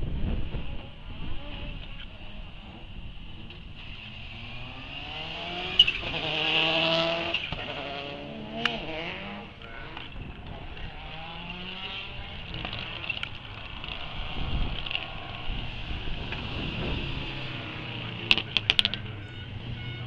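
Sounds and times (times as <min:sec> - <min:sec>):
rally car engines revving: 0:00.0 - 0:20.0.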